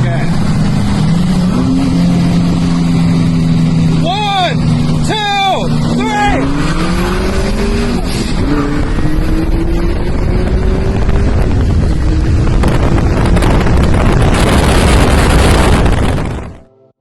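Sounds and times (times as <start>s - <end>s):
car engine accelerating: 0.0s - 16.6s
heavy wind noise: 0.0s - 16.7s.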